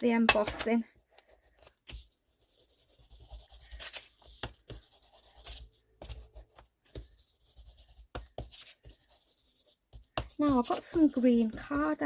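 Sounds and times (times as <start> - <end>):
rubbing on paper: 1.0 - 12.0.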